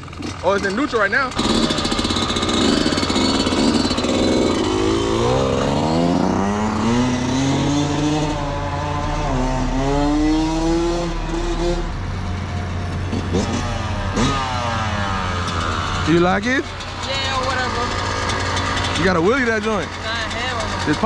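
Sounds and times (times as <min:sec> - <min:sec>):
quad engine idling: 0:00.0 - 0:10.2, 0:11.1 - 0:21.0
dirt bike revving: 0:00.0 - 0:21.0.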